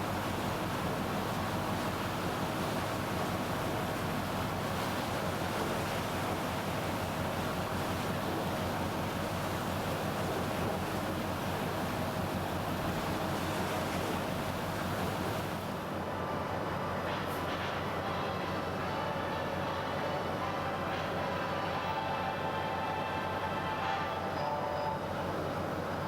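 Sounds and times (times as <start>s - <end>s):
wind: 0.0s - 26.0s.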